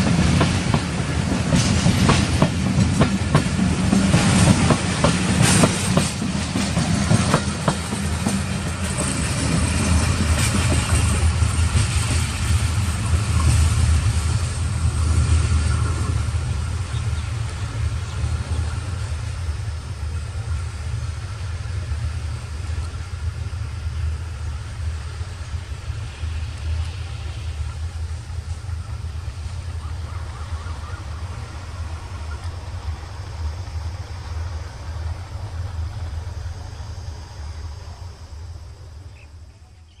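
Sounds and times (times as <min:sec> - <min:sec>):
train rumbling along track: 0:00.0 - 0:40.0.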